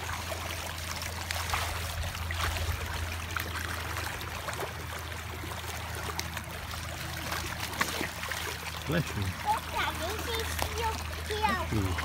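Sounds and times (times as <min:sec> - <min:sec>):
small splashes: 0:00.0 - 0:12.0
water running in gutter: 0:00.0 - 0:12.0.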